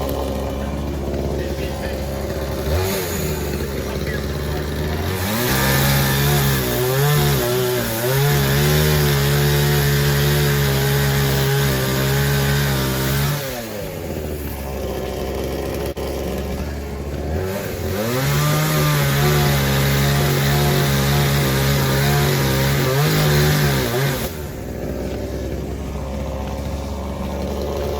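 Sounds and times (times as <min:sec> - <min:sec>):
chainsaw engine revving: 0:00.0 - 0:27.9.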